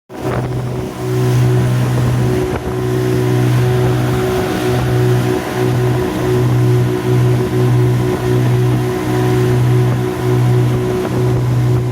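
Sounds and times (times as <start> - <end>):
outboard motors droning: 0.1 - 11.9
wind noise on microphone: 0.1 - 11.9.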